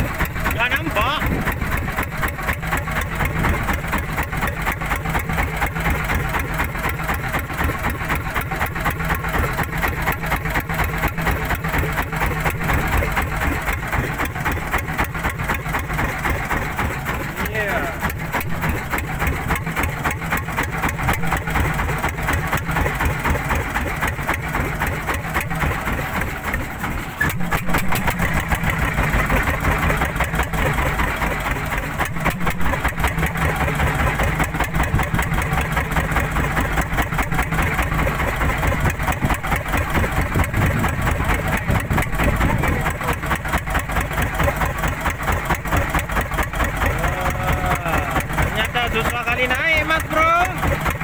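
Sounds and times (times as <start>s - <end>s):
boat engine chugging: 0.0s - 51.0s.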